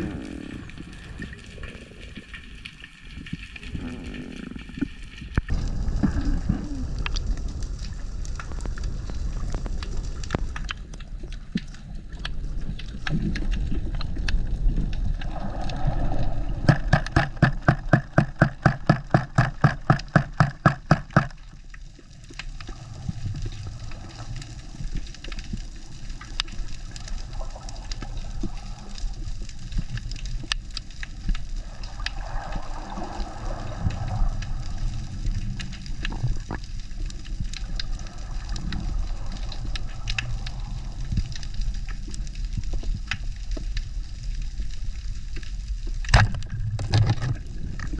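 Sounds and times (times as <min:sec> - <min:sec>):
sharp clicks and crackles: 0:00.0 - 0:47.9
underwater wash of water: 0:00.0 - 0:47.9.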